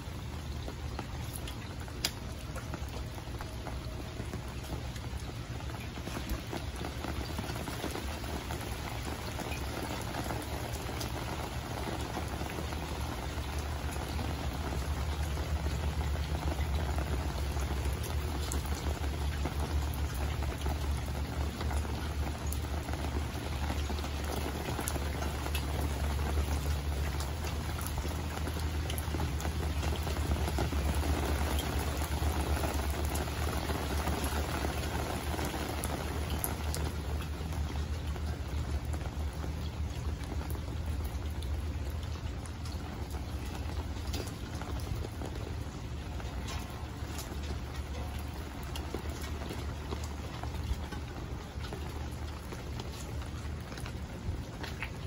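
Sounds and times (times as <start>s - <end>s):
rain on water and concrete: 0.0s - 55.0s.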